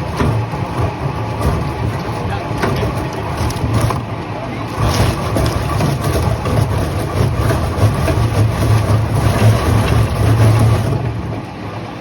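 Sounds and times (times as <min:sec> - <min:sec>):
machinery clatter: 0:00.0 - 0:11.6
sawmill machinery humming: 0:00.0 - 0:12.0.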